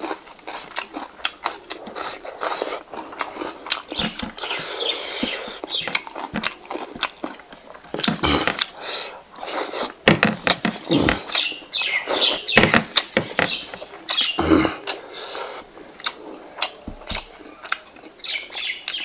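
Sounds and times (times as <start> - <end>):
mouth clicks and smacks: 0.0 - 19.0
person chewing loudly: 0.0 - 19.0.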